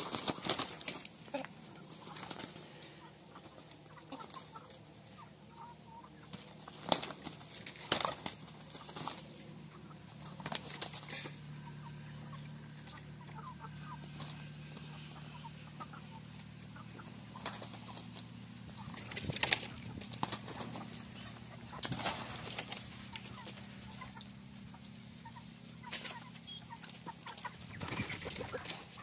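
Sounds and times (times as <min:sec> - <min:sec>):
chickens clucking: 0:00.0 - 0:29.0
roosters scuffling and wing-flapping: 0:00.0 - 0:29.0.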